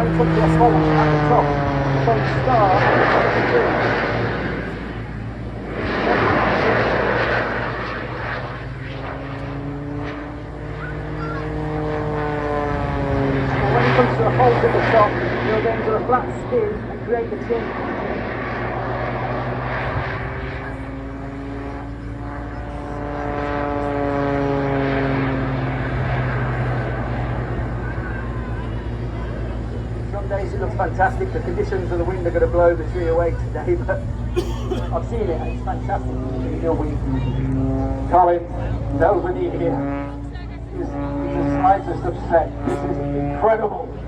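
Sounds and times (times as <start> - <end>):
aircraft engine: 0.0 - 44.0.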